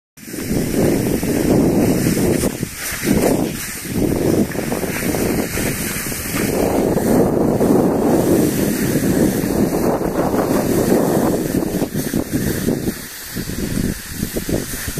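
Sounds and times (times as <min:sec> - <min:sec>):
skis hissing over snow: 0:00.2 - 0:14.9
wind buffeting microphone: 0:00.2 - 0:14.9.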